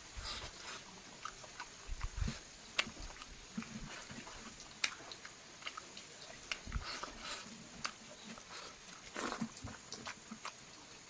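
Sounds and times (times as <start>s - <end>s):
chewing with wet mouth clicks: 0.2s - 11.0s.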